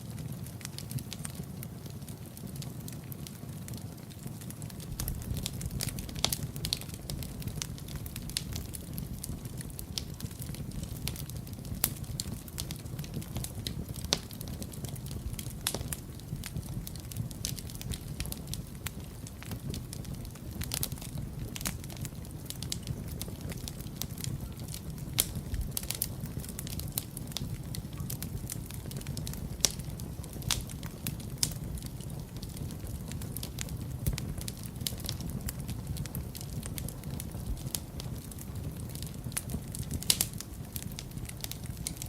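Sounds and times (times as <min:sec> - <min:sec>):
fire crackling and popping: 0:00.0 - 0:42.0
fire flames rumbling: 0:00.0 - 0:42.0.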